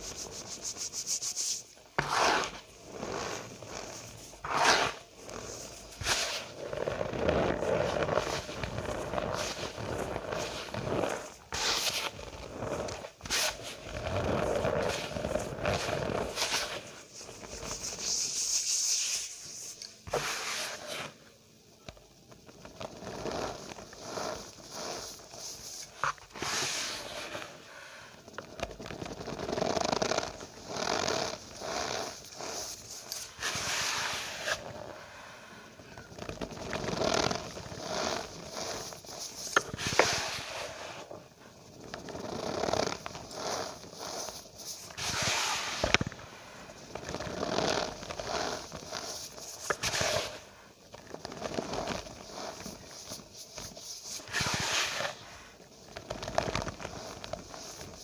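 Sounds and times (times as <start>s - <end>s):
cornstarch squeaking and crunching: 0.0s - 19.3s, 22.5s - 27.4s, 28.5s - 34.8s, 35.8s - 58.0s.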